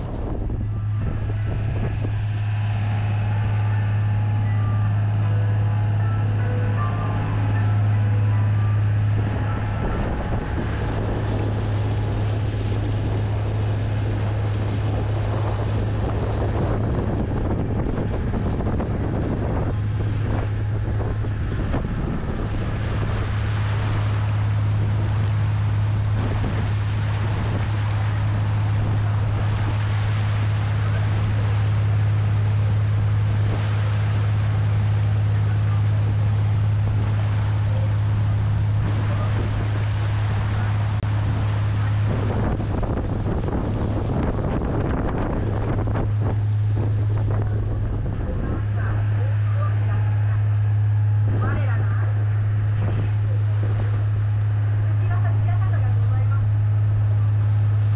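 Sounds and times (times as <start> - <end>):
boat engine drone: 0.0 - 57.9
water rushing: 0.0 - 57.9
wind buffeting microphone: 0.0 - 57.9.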